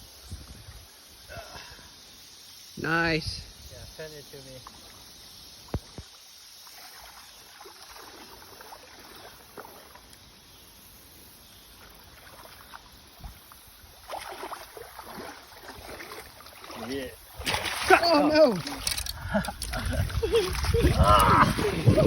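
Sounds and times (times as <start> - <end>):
creek water flowing: 0.1 - 22.0.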